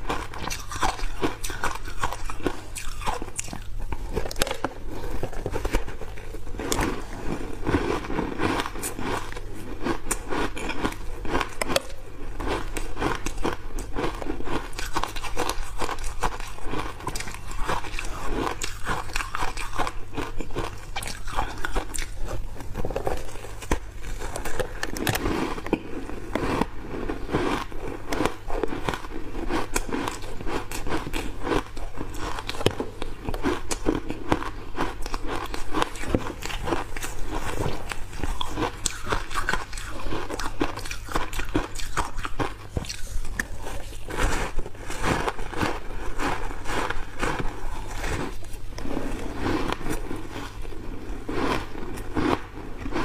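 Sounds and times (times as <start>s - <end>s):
crunching ice: 0.1s - 53.0s.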